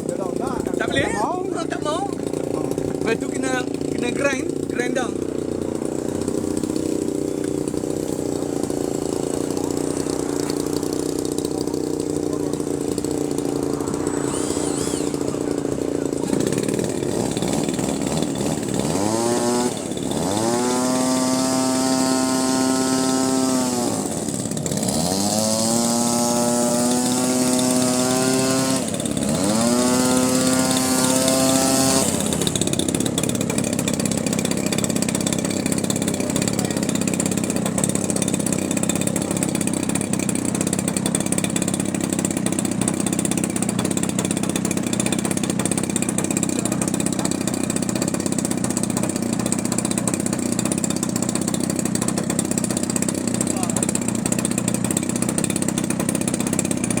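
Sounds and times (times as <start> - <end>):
small motor whining: 0.0 - 57.0.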